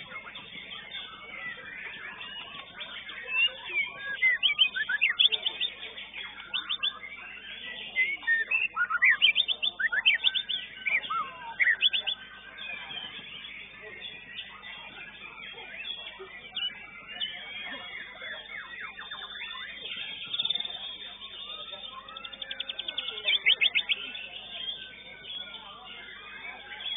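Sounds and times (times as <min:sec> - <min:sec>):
songbird whistles and chirps: 0:00.0 - 0:26.9.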